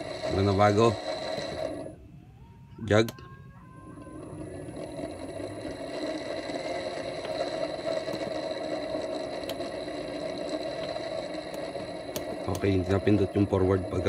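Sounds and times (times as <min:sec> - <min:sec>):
electric motor humming with whine: 0:00.0 - 0:02.1, 0:02.8 - 0:14.0.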